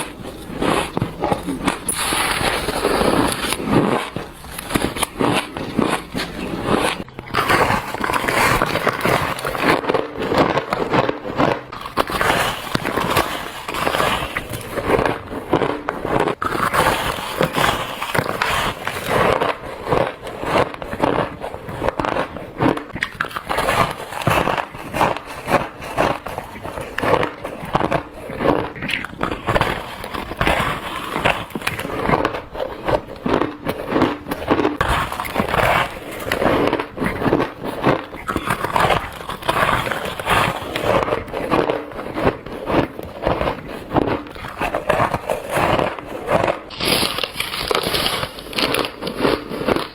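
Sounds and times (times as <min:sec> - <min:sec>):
crunching shaved ice: 0:00.0 - 0:49.9.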